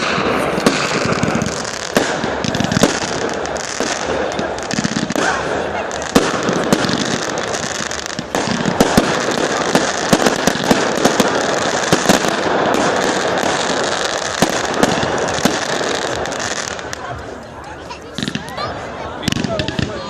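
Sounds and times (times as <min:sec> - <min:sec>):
fireworks bangs: 0:00.0 - 0:20.0
fireworks crackling: 0:00.0 - 0:20.0.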